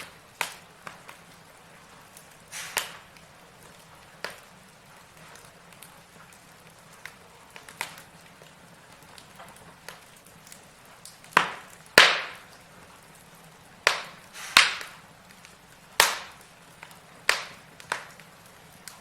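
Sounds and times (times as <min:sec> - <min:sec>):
burning logs popping: 0:00.0 - 0:19.0
low steady hiss: 0:00.0 - 0:19.0
wood fire crackling: 0:00.0 - 0:19.0.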